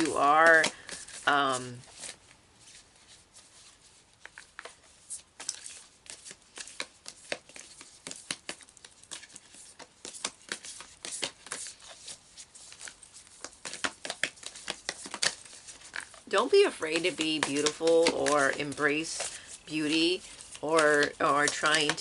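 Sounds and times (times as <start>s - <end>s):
cards being shuffled: 0.0s - 22.0s.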